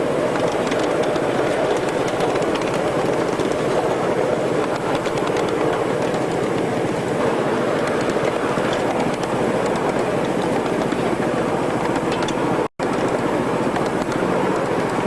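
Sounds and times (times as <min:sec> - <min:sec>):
small train wheels rattling: 0:00.0 - 0:15.0.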